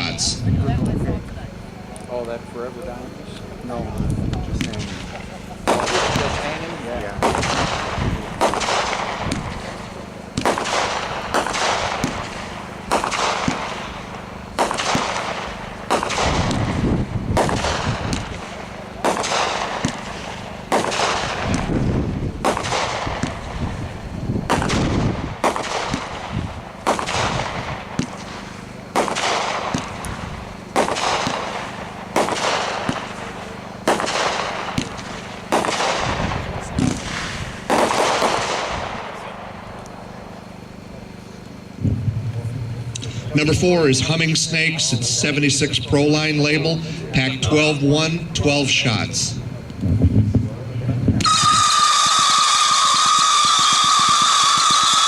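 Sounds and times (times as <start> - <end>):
fireworks bangs with hissing tails: 3.9 - 43.4, 49.8 - 55.0.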